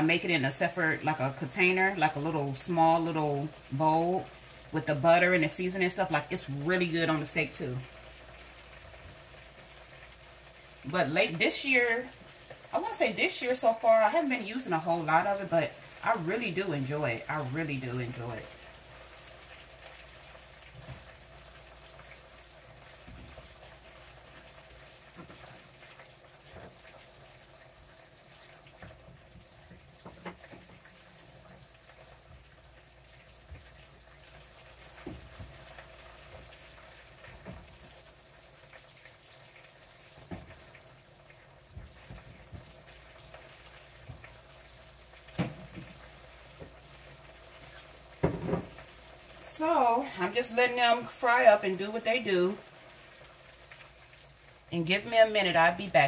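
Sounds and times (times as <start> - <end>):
oil sizzling with pops: 0.0 - 56.0.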